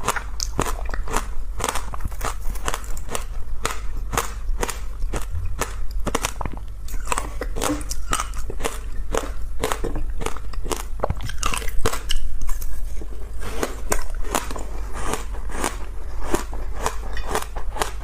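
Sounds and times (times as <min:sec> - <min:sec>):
chewing ice: 0:00.0 - 0:18.0.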